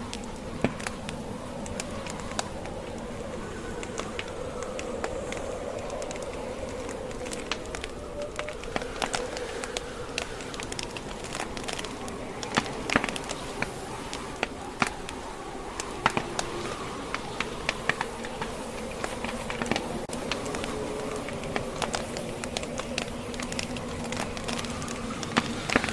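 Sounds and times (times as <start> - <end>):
wood fire crackling and popping: 0.0 - 25.9.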